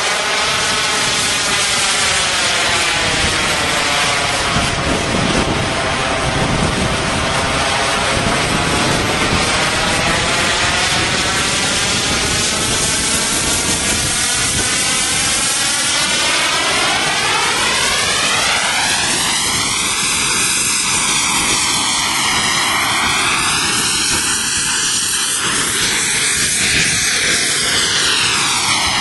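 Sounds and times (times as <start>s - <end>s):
model jet engine roaring: 0.0s - 29.0s.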